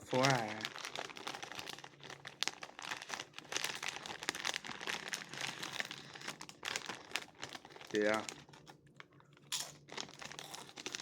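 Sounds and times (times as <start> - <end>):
plastic chip bag crinkling: 0.0 - 11.0.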